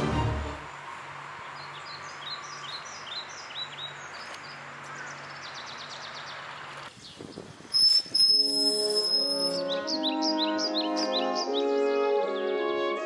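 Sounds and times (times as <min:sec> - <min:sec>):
songbird chirping and trilling: 0:00.9 - 0:13.0.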